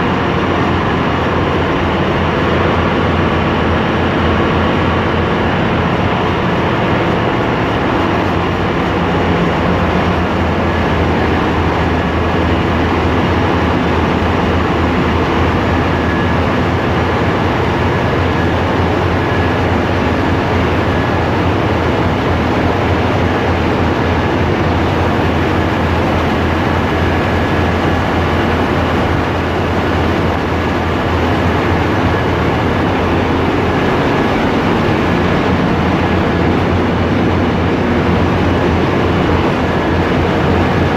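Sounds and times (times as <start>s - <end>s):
constant low hum: 0.0s - 40.9s
diesel machinery running: 0.0s - 40.9s.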